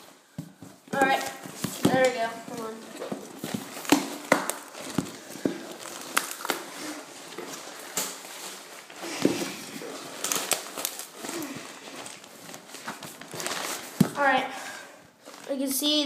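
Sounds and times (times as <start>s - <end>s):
newspaper and tape crinkling: 0.2s - 15.7s.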